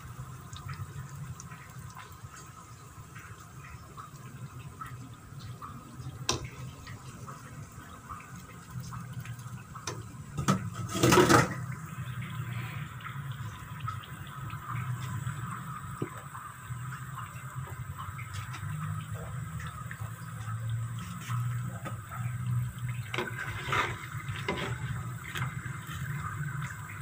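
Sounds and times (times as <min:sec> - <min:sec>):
dough bubbling in hot oil: 0:00.0 - 0:27.0.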